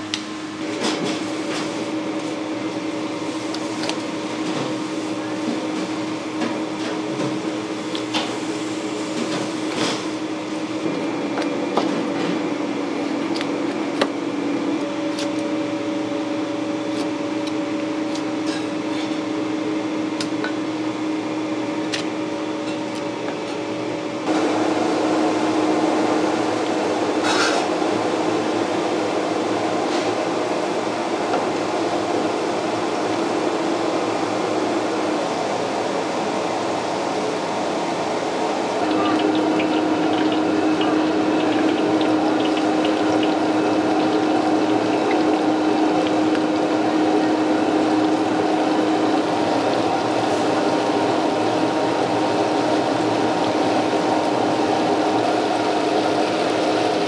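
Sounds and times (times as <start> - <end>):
busy kitchen background: 0.0 - 57.0
kitchen ventilation hum: 0.0 - 57.0.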